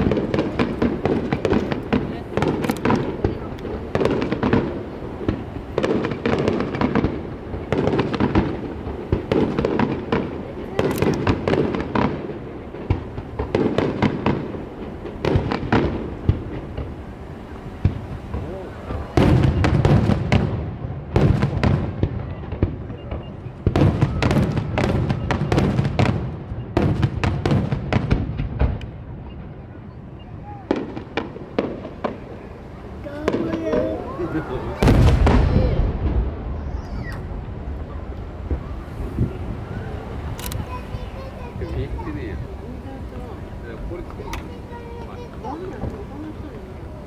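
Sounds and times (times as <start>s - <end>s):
firework bangs and crackles: 0.0s - 47.0s
rumble of firework bursts: 0.0s - 47.0s.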